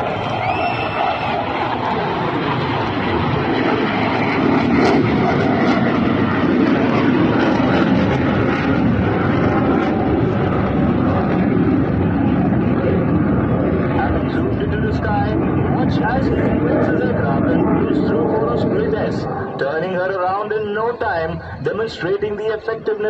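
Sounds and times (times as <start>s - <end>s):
fighter jet roaring: 0.0s - 23.0s.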